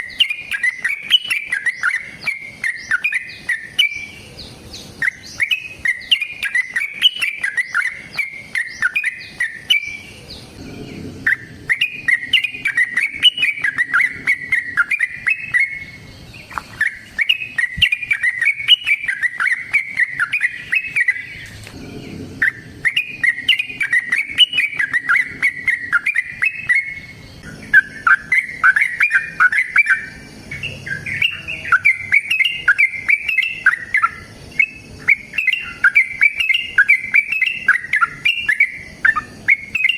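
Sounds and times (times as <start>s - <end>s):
bird singing bubbly chatter: 0.0s - 39.9s.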